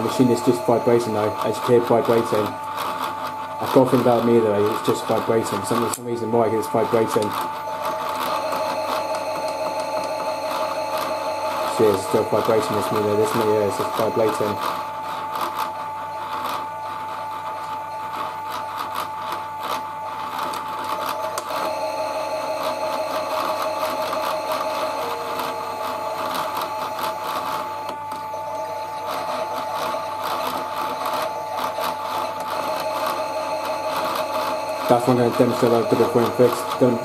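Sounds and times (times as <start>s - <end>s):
toy washing machine motor whine: 0.0s - 37.0s.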